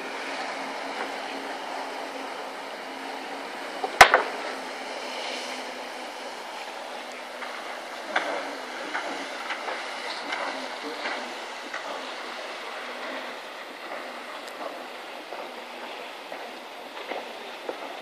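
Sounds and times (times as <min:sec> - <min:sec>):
distant jet ski engine: 0:00.0 - 0:18.0
surf: 0:00.0 - 0:18.0
wind: 0:00.0 - 0:18.0.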